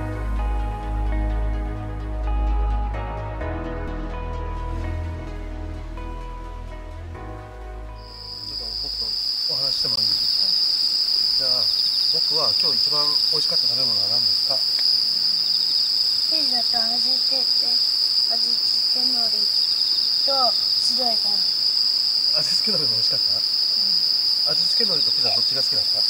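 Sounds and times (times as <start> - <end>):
night insects chirring: 0.0 - 26.0.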